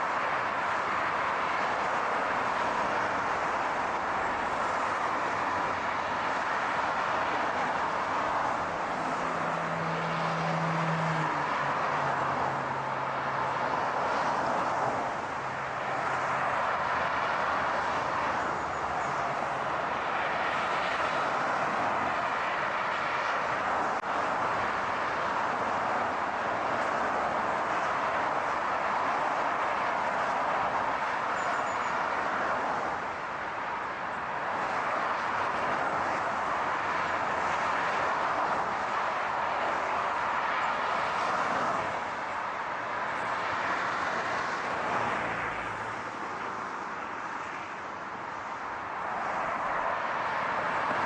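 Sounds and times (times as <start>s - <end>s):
car and road noise: 0.0s - 51.0s.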